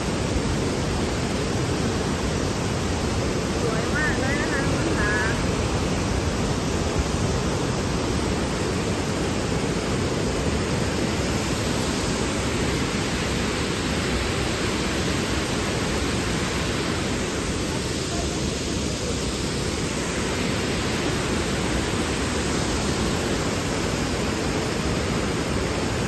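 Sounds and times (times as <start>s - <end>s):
waterfall and rapids rushing: 0.0s - 26.0s.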